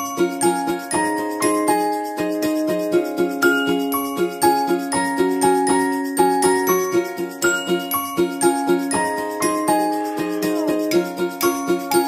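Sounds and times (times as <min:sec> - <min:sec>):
tinkling bell-like melody: 0:00.0 - 0:12.0.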